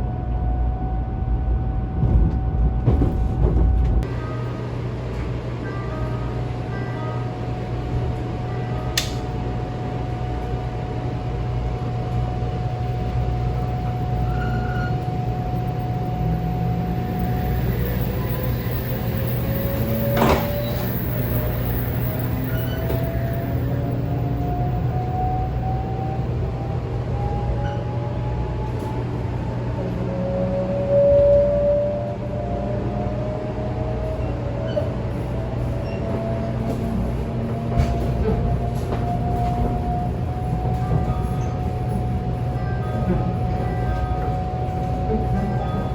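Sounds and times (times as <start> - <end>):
running train hum: 0.0 - 45.9
train inverter whining: 0.0 - 45.9.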